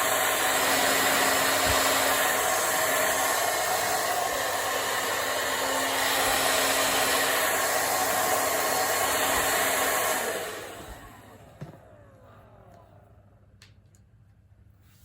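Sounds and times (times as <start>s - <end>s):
hair dryer blowing: 0.0s - 13.2s.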